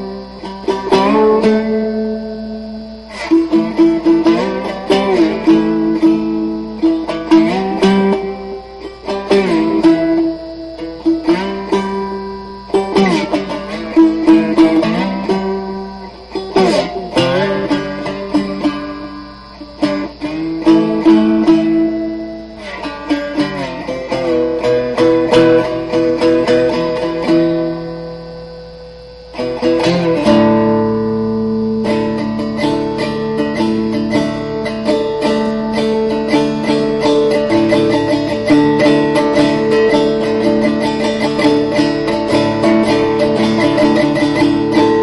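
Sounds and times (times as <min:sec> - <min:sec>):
slide guitar plucked notes: 0:00.0 - 0:45.0.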